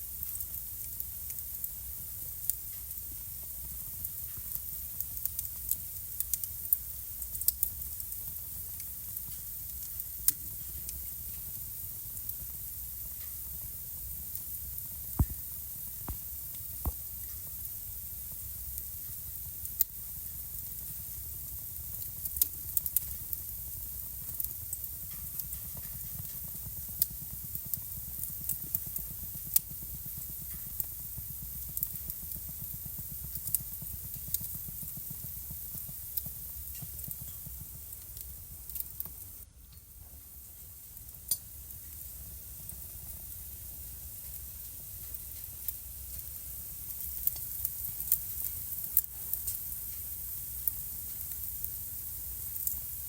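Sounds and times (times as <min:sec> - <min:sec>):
fire rumble and hiss: 0:00.0 - 0:53.0
wood fire crackling and popping: 0:00.0 - 0:53.0.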